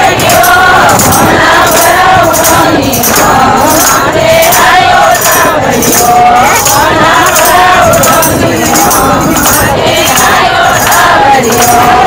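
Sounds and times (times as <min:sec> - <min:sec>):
rhythmic hand-clapping: 0:00.0 - 0:12.0
women singing together: 0:00.0 - 0:12.0.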